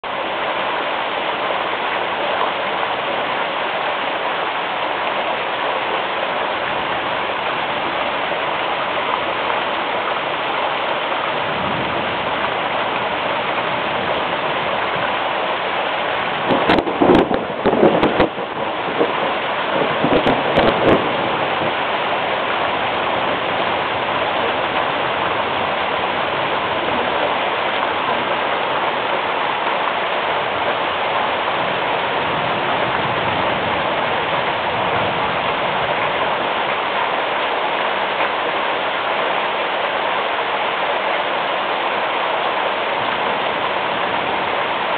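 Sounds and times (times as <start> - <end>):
steady rain hissing: 0.0 - 44.9.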